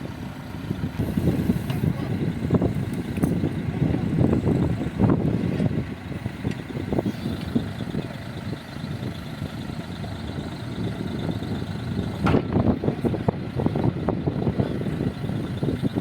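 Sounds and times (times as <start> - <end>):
diesel engine running unevenly: 0.0 - 16.0.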